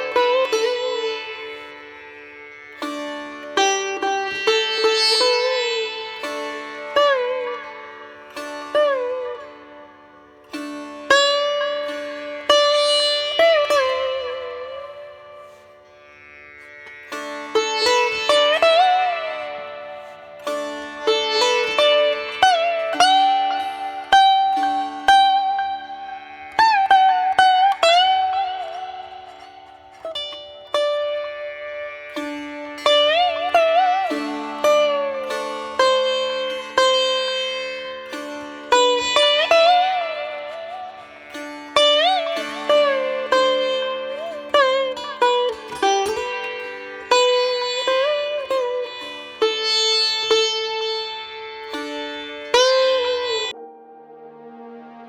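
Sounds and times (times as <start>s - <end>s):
plucked string instrument melody: 0.0s - 55.0s.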